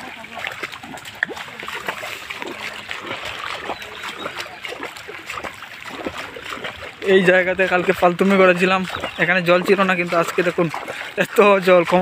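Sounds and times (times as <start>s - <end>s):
floodwater splashing and trickling: 0.0s - 12.0s.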